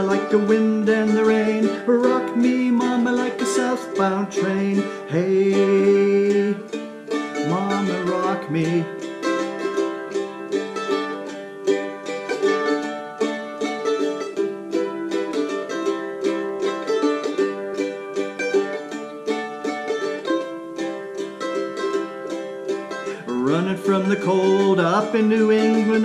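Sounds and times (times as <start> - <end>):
mandolin picking and strumming: 0.0 - 26.0.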